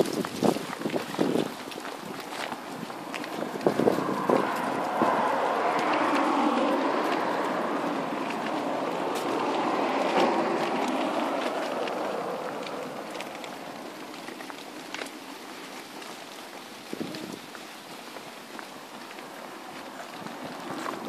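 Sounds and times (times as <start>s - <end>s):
pram wheels rolling over pavement: 0.0s - 21.0s.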